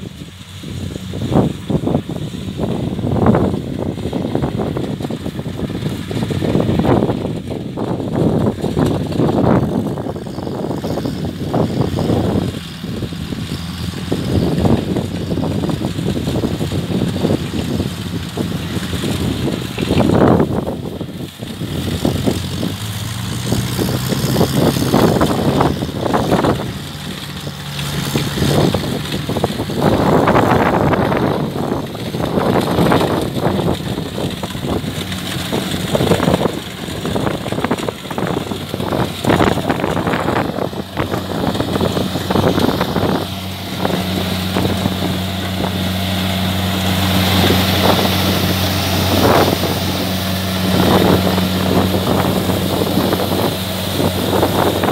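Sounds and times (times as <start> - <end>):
combine harvester diesel engine: 0.0 - 54.9
wind buffeting microphone: 0.0 - 54.9.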